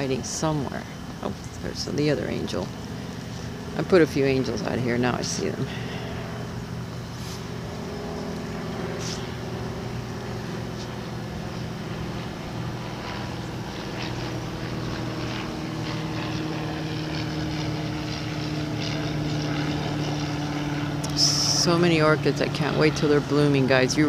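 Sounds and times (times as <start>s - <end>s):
motor drone humming: 0.0s - 24.0s.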